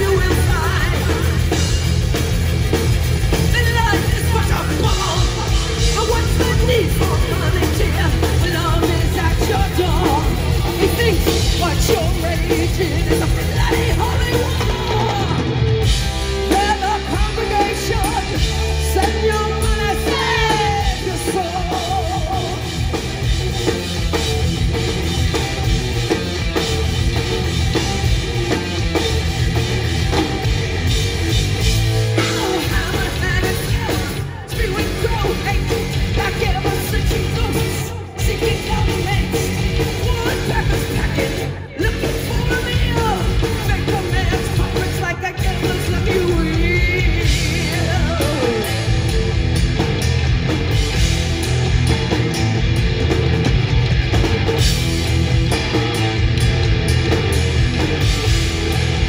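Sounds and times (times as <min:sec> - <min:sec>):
metal band playing: 0:00.0 - 0:59.0.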